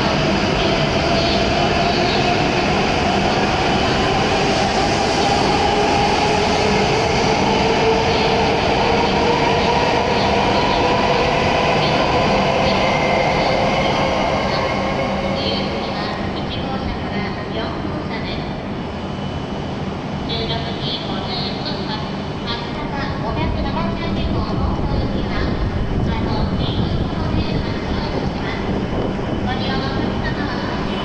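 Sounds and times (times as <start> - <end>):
train rumble: 0.0 - 18.8, 20.1 - 31.0.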